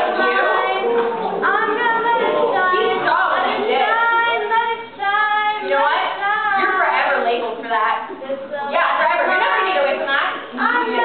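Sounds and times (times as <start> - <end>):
girls singing unaccompanied: 0.0 - 11.0.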